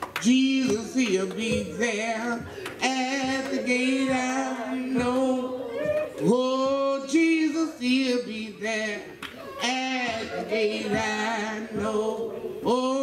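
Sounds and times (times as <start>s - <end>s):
woman singing gospel solo: 0.2s - 13.0s.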